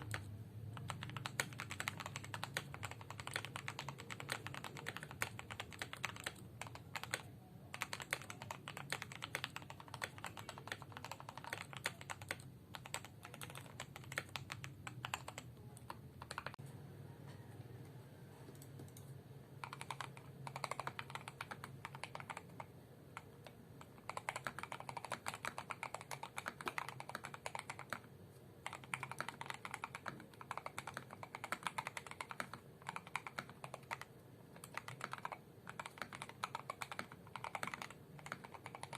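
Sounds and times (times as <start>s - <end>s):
mechanical keyboard typing clacks: 0.0s - 16.6s, 19.6s - 38.9s.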